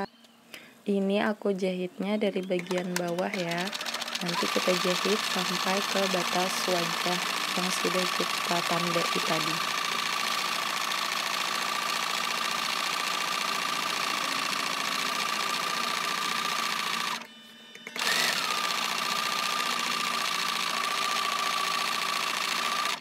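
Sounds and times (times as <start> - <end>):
sewing machine whining: 2.4 - 23.0.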